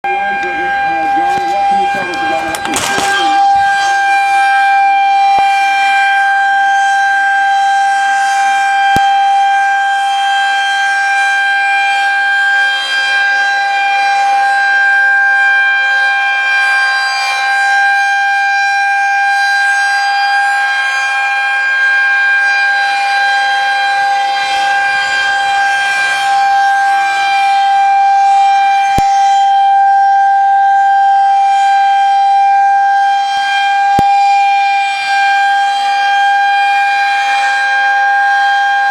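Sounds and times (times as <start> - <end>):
warning siren steady pitch: 0.0 - 38.9.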